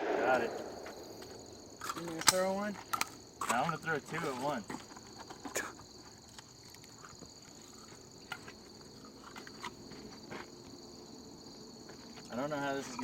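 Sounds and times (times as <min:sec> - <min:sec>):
insects humming: 0:00.0 - 0:13.0.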